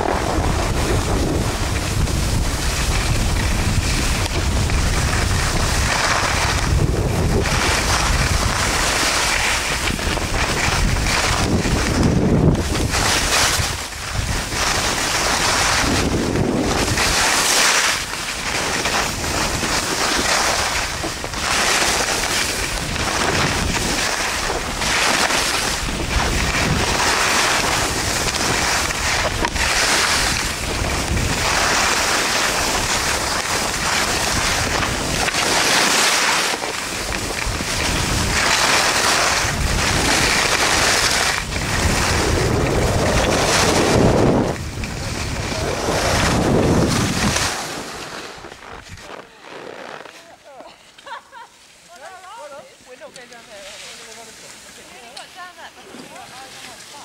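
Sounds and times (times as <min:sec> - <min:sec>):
wind buffeting microphone: 0:00.0 - 0:49.2
skis hissing over snow: 0:00.0 - 0:57.0.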